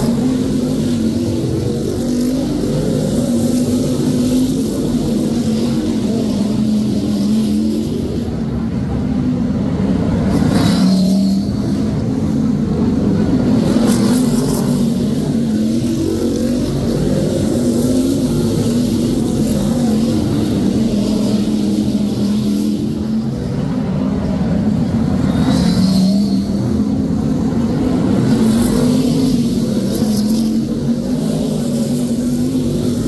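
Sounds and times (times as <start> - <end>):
race car engines: 0.0 - 33.0.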